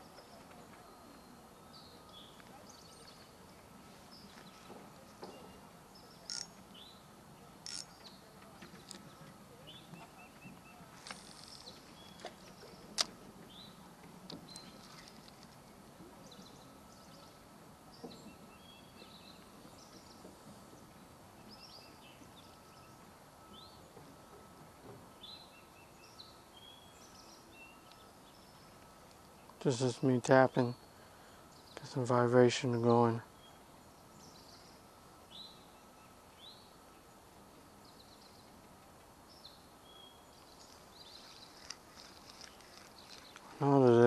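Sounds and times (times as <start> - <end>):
small birds chirping: 0.0 - 24.5, 25.1 - 44.0.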